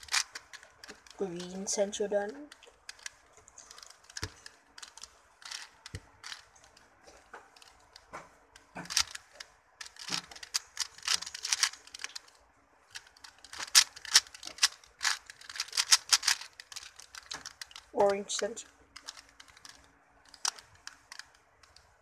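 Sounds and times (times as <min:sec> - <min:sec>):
puzzle cube plastic clicks: 0:00.0 - 0:22.0.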